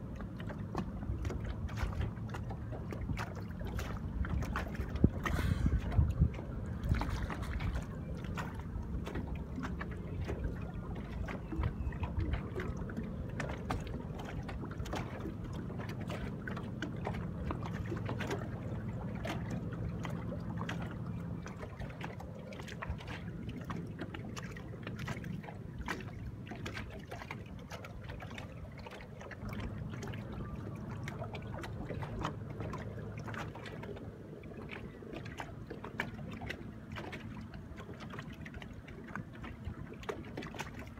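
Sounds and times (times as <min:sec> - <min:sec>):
low steady hum: 0:00.0 - 0:40.9
small waves lapping against hull: 0:00.0 - 0:40.9.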